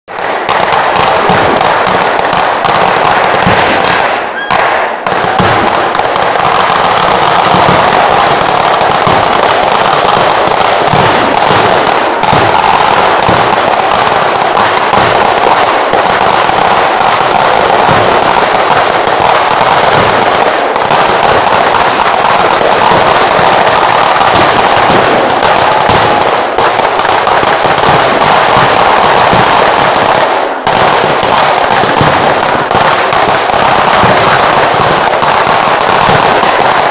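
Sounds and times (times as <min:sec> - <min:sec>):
firecracker explosions crackling: 0:00.0 - 0:36.9.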